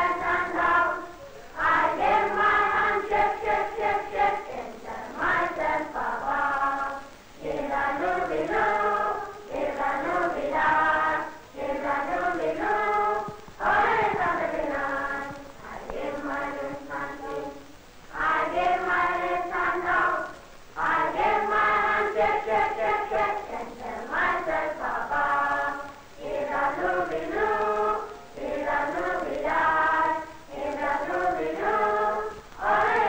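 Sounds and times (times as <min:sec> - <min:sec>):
choir singing: 0:00.0 - 0:33.0.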